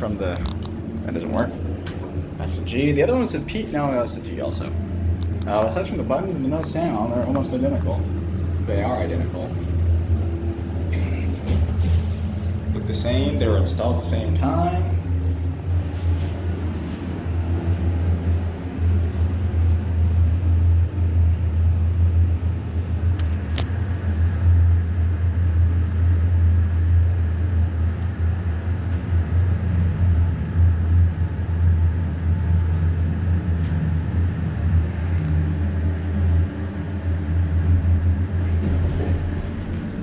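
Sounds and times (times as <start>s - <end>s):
elevator humming: 0.0s - 40.0s.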